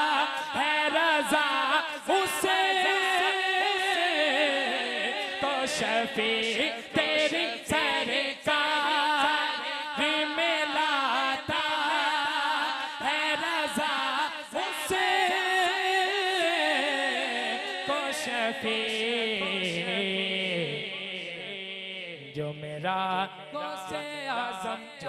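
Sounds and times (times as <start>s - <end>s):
man singing unaccompanied: 0.0s - 25.0s.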